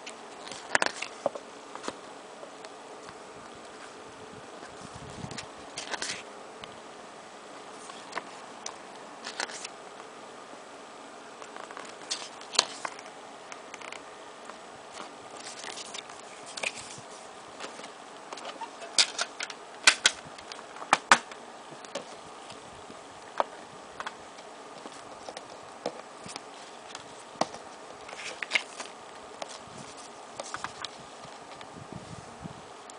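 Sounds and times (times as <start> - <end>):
cd packaging clicks and rustles: 0.0 - 4.0, 4.6 - 6.8, 7.8 - 10.2, 11.4 - 31.8
steady low hiss: 0.0 - 32.9.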